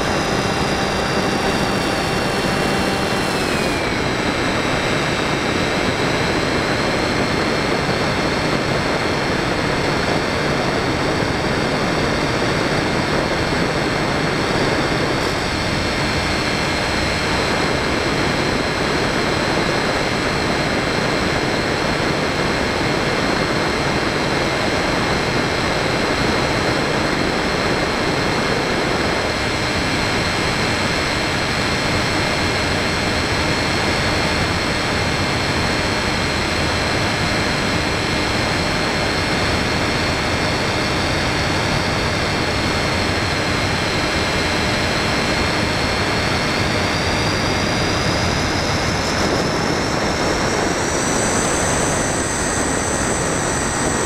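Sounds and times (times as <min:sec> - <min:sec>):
electric motor and propeller whine: 0:00.0 - 0:54.0.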